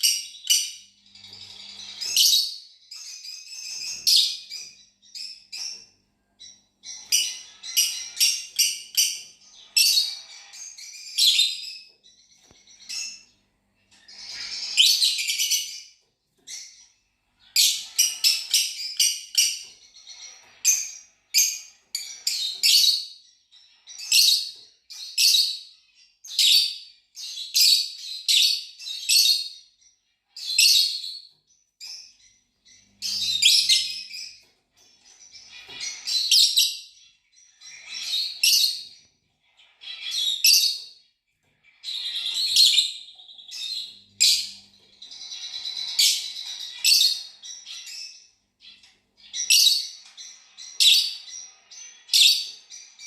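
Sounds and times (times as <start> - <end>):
lovebirds chirping: 0.0 - 53.0.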